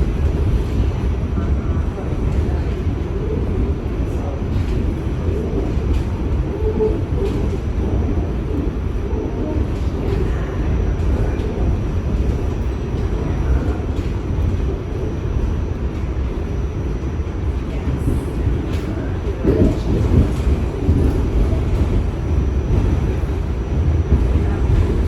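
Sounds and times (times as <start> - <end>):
subway train wheels rumbling on rail: 0.0 - 25.0.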